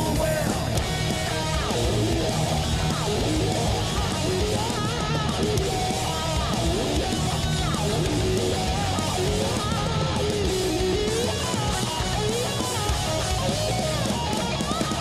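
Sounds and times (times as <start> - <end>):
bending lead guitar line: 0.0 - 15.0
heavy metal band playing: 0.0 - 15.0.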